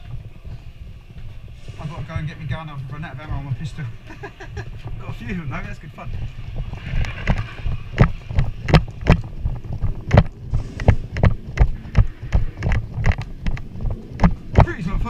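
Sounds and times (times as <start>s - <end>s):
heavy footsteps walking: 0.0s - 14.9s
gear knocking and rattling: 2.0s - 15.0s.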